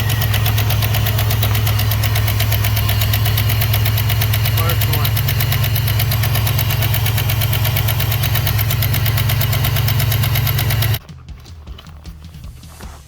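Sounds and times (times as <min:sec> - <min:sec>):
engine idling: 0:00.0 - 0:13.0
rapid valvetrain ticking: 0:00.0 - 0:13.0.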